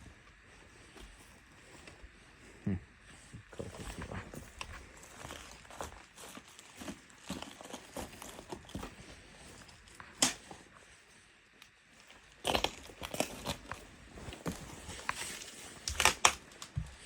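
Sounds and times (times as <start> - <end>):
footsteps crunching over debris: 0.0 - 11.1, 11.9 - 17.0
crunching and crackling: 3.2 - 17.0.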